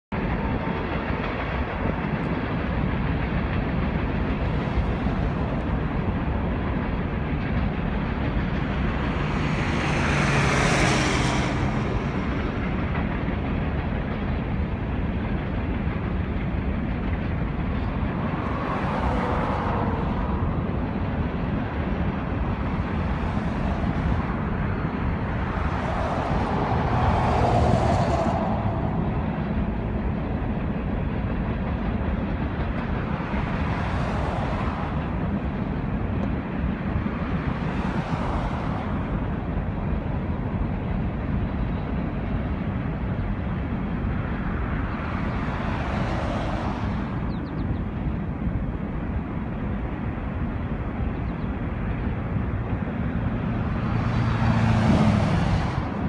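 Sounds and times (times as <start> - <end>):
train passing: 0.1 - 56.0
road vehicles passing: 0.2 - 56.0.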